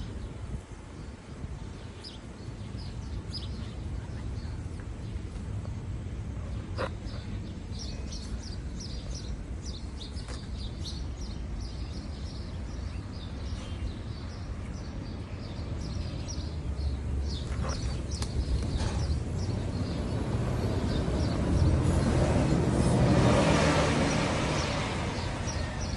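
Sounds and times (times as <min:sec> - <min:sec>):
small birds chirping: 0:00.0 - 0:22.9, 0:23.6 - 0:25.9.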